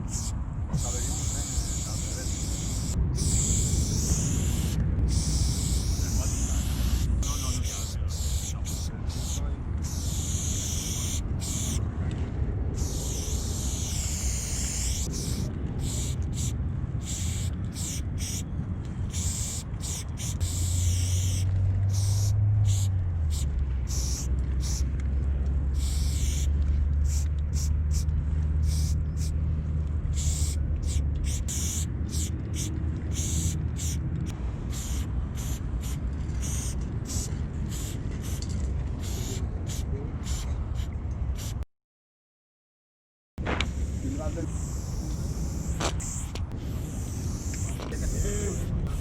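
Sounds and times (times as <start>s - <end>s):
spray paint can hissing: 0.0s - 11.8s, 12.8s - 18.5s, 19.1s - 24.9s, 25.8s - 29.4s, 30.1s - 34.0s, 34.7s - 41.6s, 43.6s - 49.0s.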